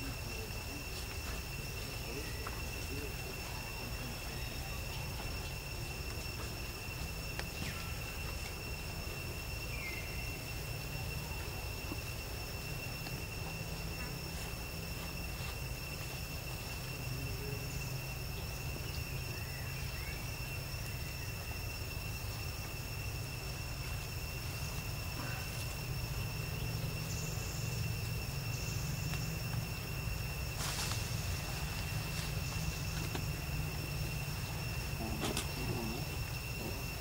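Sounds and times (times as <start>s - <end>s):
faint chirps: 0.0s - 37.0s
insects droning: 0.0s - 37.0s.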